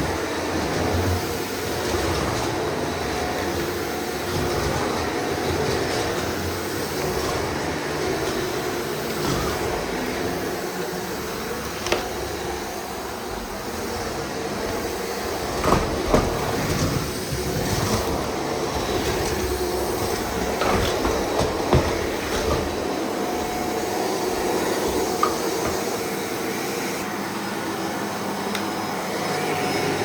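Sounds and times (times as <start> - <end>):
upright vacuum cleaner running: 0.0 - 30.0.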